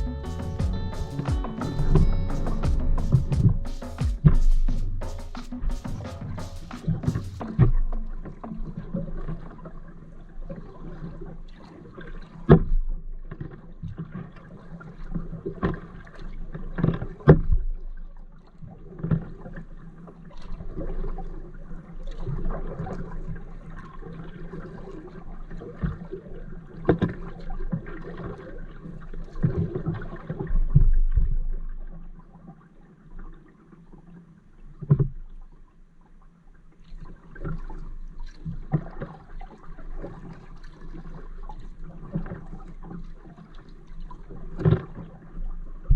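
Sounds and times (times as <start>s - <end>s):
paddle splashing water: 0.0s - 45.9s.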